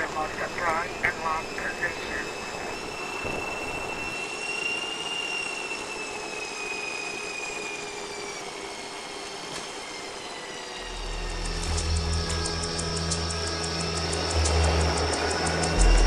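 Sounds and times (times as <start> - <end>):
jet engine high whine: 0.0 - 16.0.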